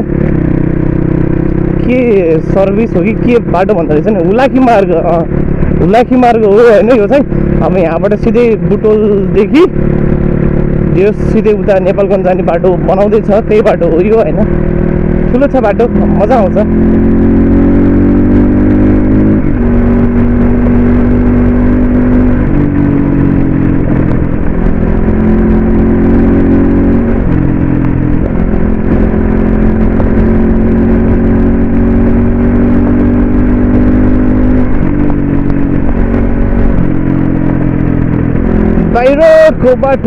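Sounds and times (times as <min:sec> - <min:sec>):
dirt bike engine running: 0:00.0 - 0:40.0
steady low rumble: 0:00.0 - 0:40.0.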